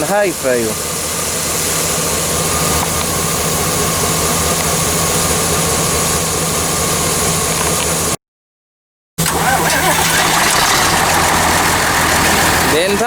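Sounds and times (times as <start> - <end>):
engine idling: 0.0 - 8.2, 9.2 - 13.0.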